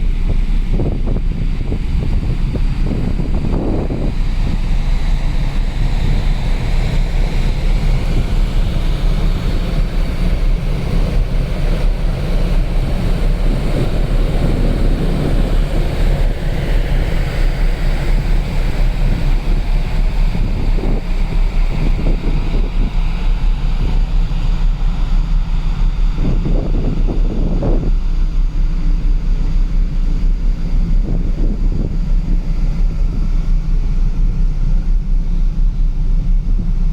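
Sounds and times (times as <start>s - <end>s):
rush of ship's wake: 0.0s - 36.9s
ship engine rumble: 0.0s - 36.9s
wind buffeting microphone: 0.0s - 36.9s.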